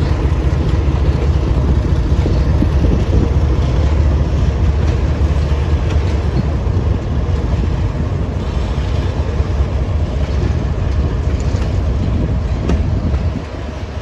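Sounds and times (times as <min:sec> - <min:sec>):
train rumbling on track: 0:00.0 - 0:14.0
train wheels clicking: 0:00.0 - 0:14.0.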